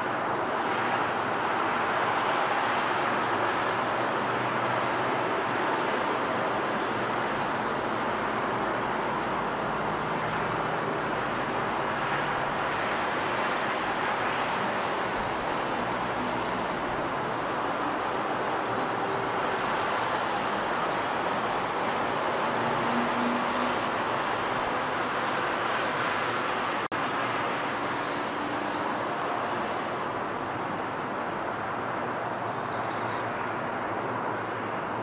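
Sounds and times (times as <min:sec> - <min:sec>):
outdoor background noise: 0:00.0 - 0:35.0
birds chirping: 0:05.9 - 0:34.2.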